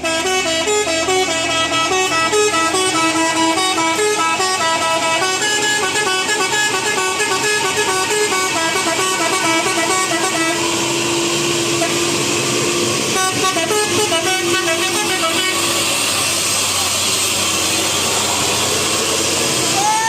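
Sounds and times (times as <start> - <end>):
musical bus horn tune: 0.0 - 19.2.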